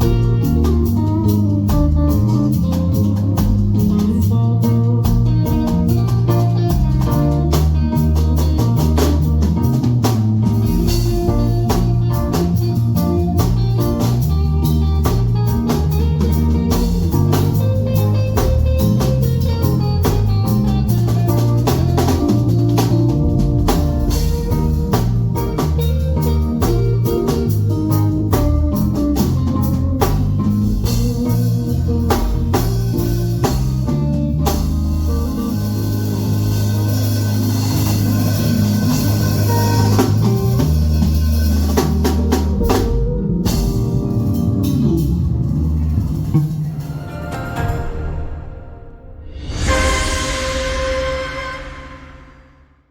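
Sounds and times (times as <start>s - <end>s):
electric guitar: 0.0s - 48.2s
drum kit beats: 0.0s - 52.9s.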